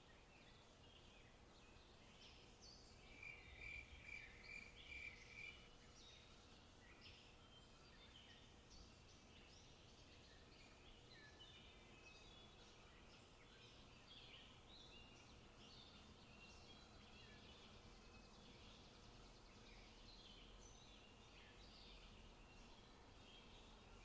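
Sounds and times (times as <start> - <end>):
low steady background hiss: 0.0 - 24.0
small birds chirping: 0.0 - 24.0
low steady background rumble: 0.1 - 24.0.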